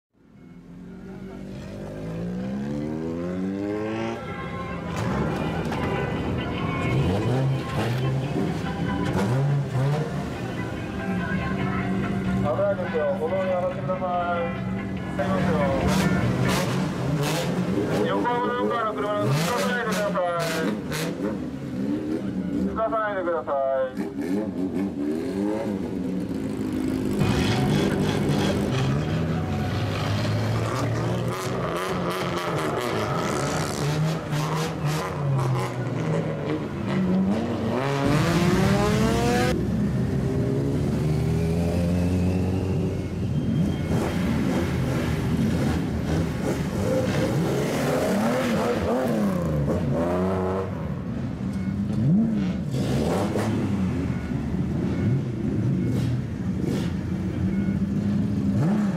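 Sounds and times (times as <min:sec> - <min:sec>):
car engines revving: 0:00.2 - 0:58.9.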